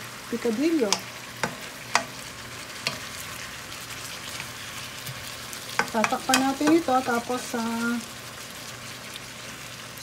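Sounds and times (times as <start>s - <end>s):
meat and potatoes sizzling in a pan: 0.0s - 10.0s.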